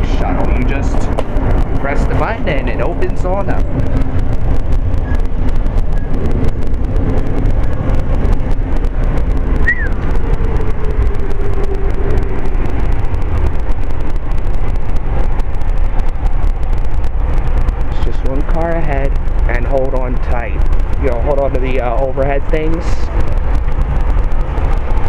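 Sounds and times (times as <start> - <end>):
passenger train rumble inside coach: 0.0 - 25.0.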